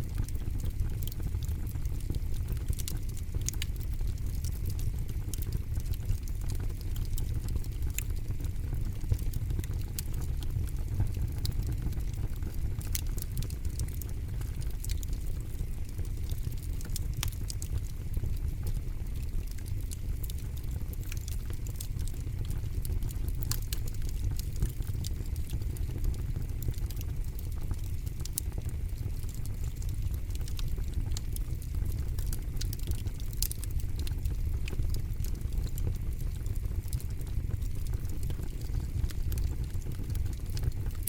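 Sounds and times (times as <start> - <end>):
campfire crackling and popping: 0.1 - 41.0.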